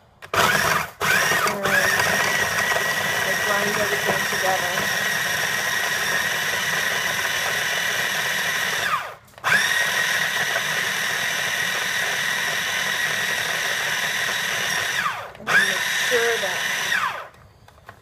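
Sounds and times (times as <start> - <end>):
food processor motor whining: 0.2 - 17.4.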